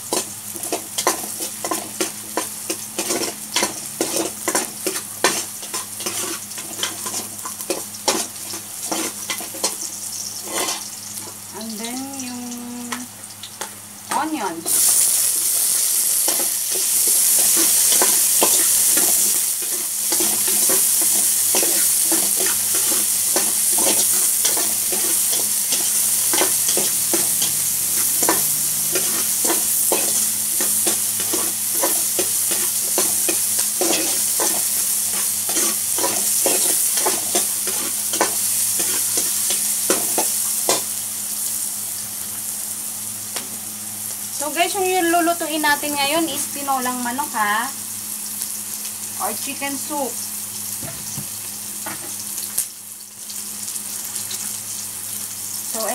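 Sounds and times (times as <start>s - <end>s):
onions sizzling in hot oil: 0.0s - 55.9s.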